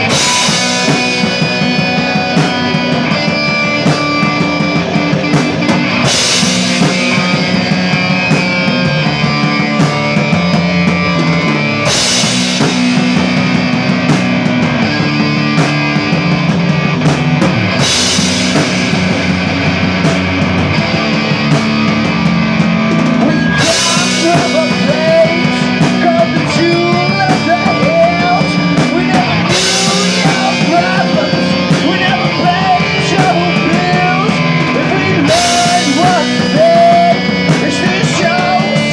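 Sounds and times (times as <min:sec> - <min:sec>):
bending lead guitar melody: 0:00.0 - 0:38.9
rock music with drums and guitar: 0:00.0 - 0:38.9.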